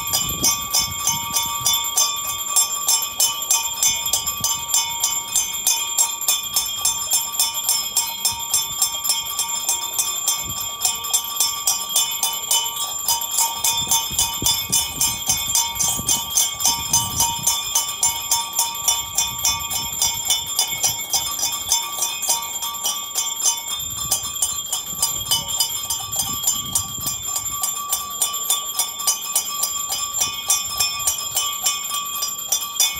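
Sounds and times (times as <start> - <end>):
temple bell ringing rapidly: 0.0 - 32.9.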